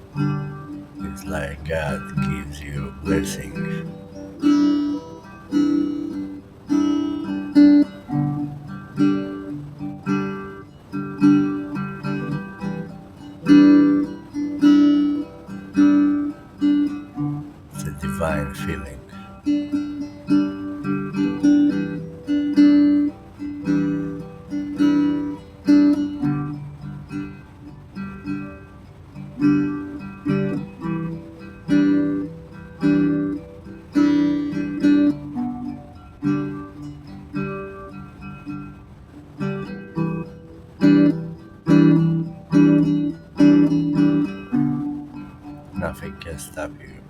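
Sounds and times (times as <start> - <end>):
acoustic guitar plucked: 0.0 - 47.0.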